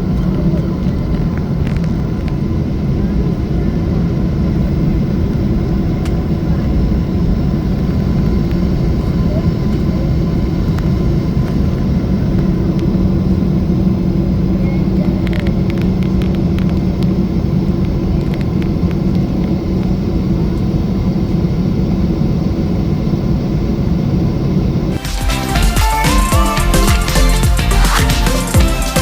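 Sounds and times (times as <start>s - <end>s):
jet cabin engine rumble: 0.0s - 25.4s
steady low hum: 0.0s - 29.0s.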